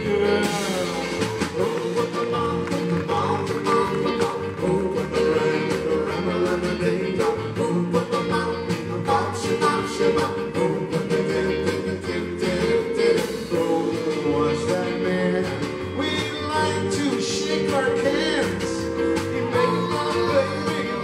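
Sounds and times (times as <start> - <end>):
group singing: 0.0 - 21.0
live rock and roll band: 0.0 - 21.0.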